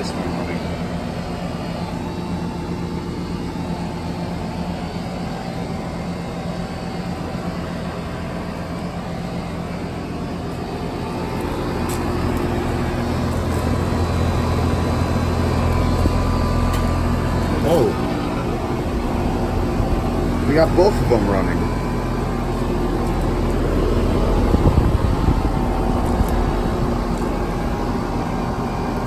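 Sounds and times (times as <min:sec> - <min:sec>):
air conditioner unit humming: 0:00.0 - 0:29.0.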